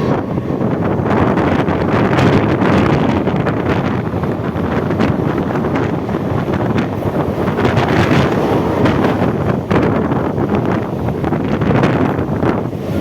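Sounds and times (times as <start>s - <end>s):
electric train rumbling: 0.0s - 13.0s
train wheels clacking: 0.0s - 13.0s
wind on microphone: 0.0s - 13.0s.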